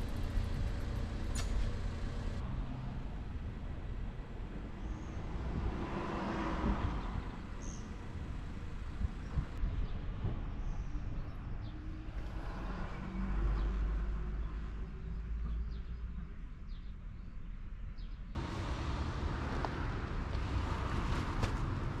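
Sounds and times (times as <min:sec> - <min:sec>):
low street rumble: 0:00.0 - 0:17.8, 0:18.4 - 0:22.0.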